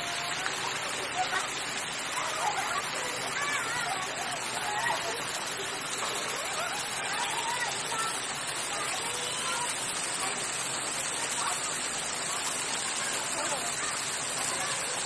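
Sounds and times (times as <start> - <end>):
distant voices talking: 0.0 - 15.0.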